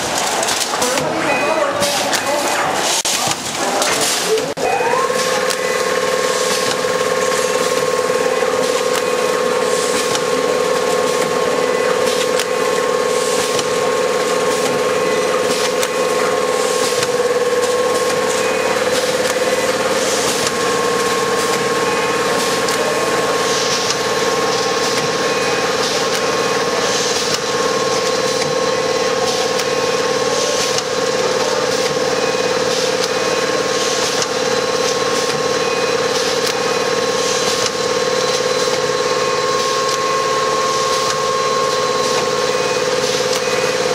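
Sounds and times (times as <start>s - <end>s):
machine clacking: 0.0s - 43.9s
packing machine motor hum: 0.0s - 43.9s.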